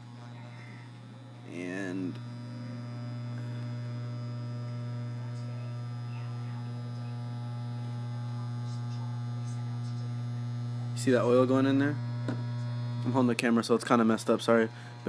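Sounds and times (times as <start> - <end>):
electric hair clipper humming: 0.0 - 15.0.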